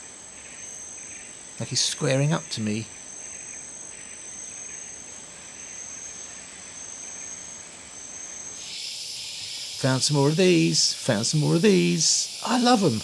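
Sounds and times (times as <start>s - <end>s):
faint hiss: 0.0s - 13.0s
insects calling: 0.0s - 13.0s.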